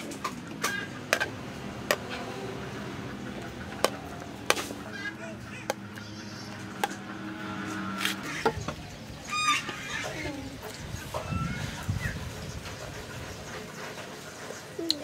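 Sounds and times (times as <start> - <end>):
chickens calling: 0.1 - 15.0.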